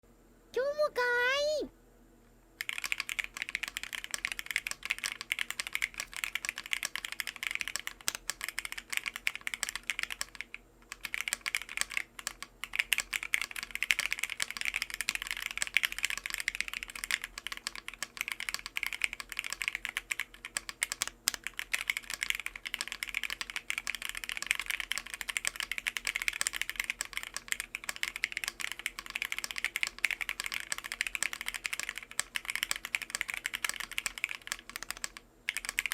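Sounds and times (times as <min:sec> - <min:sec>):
fast typing on mechanical keyboard: 0:02.6 - 0:35.9.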